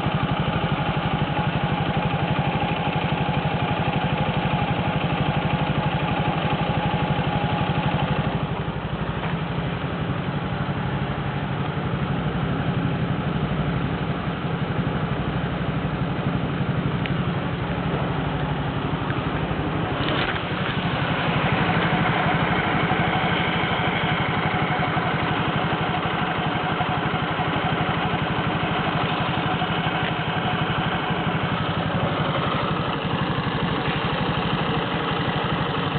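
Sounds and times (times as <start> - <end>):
scooter engine idling: 0.0 - 35.9.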